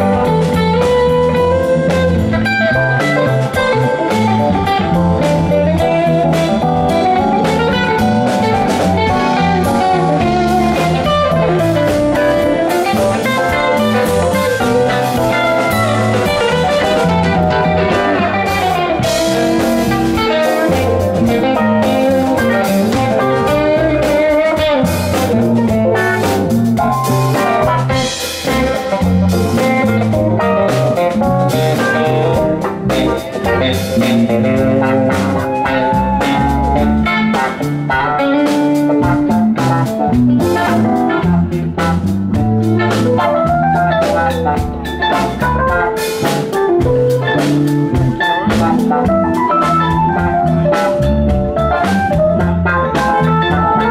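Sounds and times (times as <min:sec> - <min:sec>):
drums: 0:00.0 - 0:53.9
electric bass: 0:00.0 - 0:53.9
electric guitars: 0:00.0 - 0:53.9
keyboards: 0:00.0 - 0:53.9.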